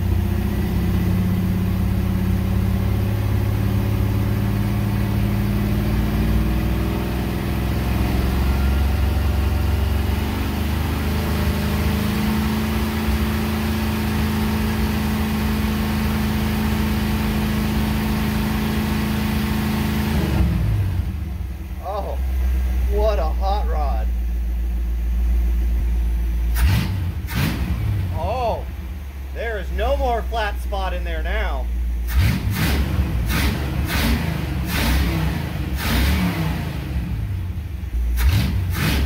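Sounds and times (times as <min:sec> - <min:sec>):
van engine running: 0:00.0 - 0:39.0.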